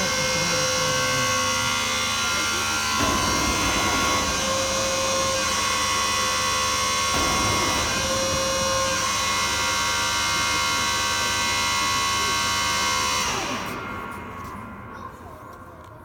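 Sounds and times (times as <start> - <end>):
hydraulic system machine whine: 0.0 - 16.0.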